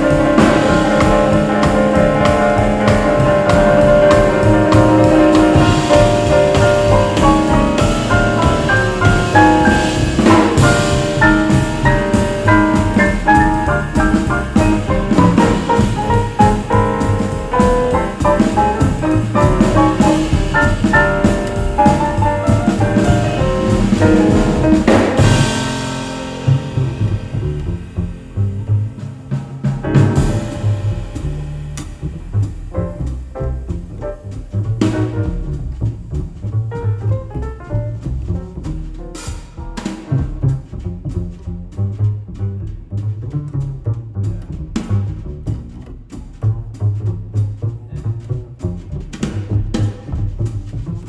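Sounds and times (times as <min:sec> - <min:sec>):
drum kit: 0:00.0 - 0:51.0
jazz piano: 0:00.0 - 0:51.0
walking double bass: 0:00.0 - 0:51.0.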